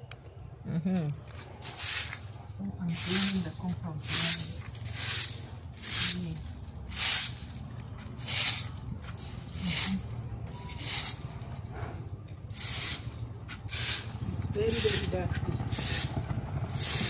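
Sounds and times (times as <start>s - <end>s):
twig broom sweeping ground: 1.6s - 11.6s, 12.4s - 17.0s.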